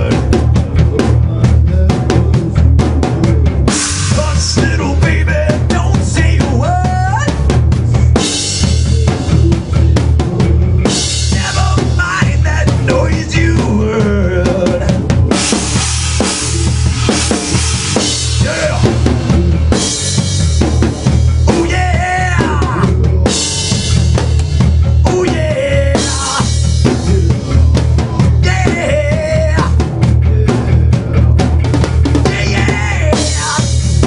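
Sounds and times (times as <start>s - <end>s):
man singing: 0.0s - 15.5s, 18.0s - 20.0s, 21.3s - 34.0s
heavy metal band playing: 0.0s - 34.0s.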